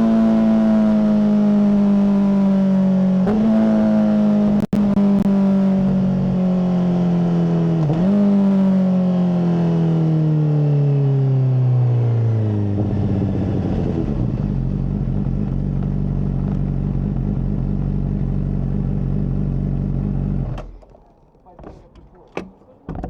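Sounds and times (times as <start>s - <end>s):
motorcycle engine revving and idling: 0.0s - 21.6s.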